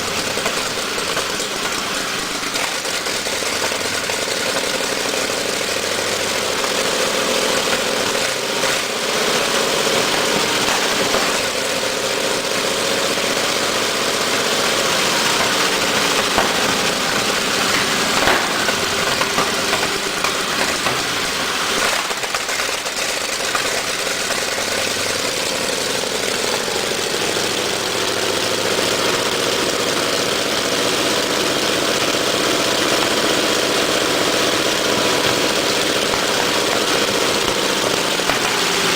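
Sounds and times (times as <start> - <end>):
tank engine running: 0.0 - 38.9.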